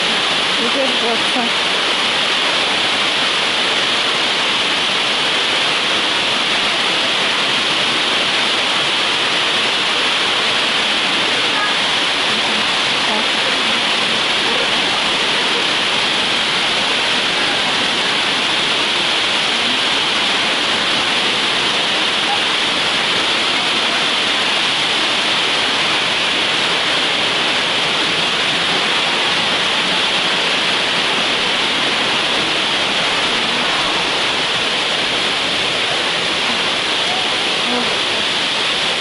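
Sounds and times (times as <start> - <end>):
waterfall roaring: 0.0 - 39.0.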